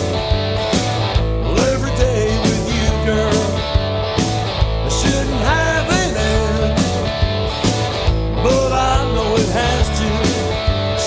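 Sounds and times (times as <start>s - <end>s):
electric blues band playing: 0.0s - 11.0s
lead electric guitar bending notes: 0.0s - 11.0s.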